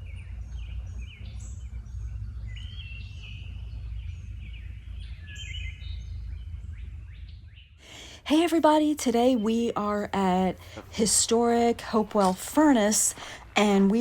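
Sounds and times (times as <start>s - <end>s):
low rumble: 0.0s - 14.0s
birds chirping: 0.3s - 14.0s.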